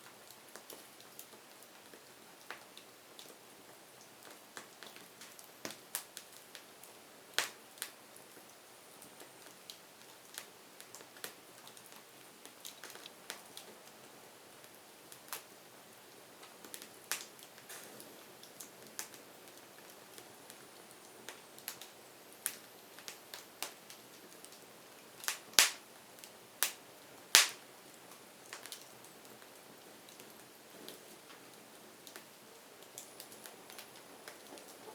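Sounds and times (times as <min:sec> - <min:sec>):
faint hiss: 0:00.0 - 0:34.9
firewood crackling: 0:00.1 - 0:34.9.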